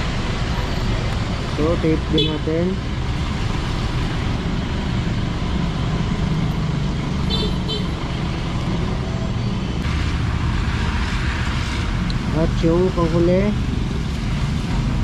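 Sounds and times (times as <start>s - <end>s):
road traffic drone: 0.0s - 15.0s.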